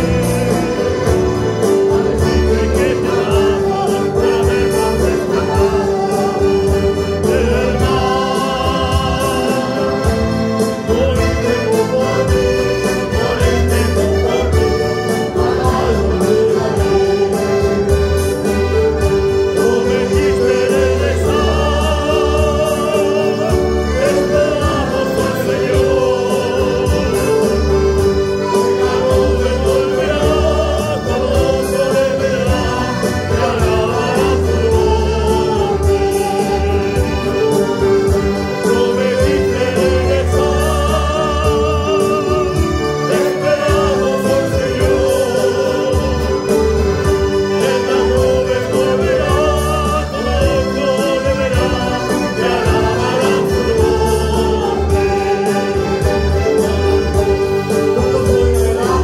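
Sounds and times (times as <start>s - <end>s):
church choir singing: 0.0s - 59.0s
held keyboard note: 0.0s - 59.0s
pulsing bass: 0.0s - 59.0s.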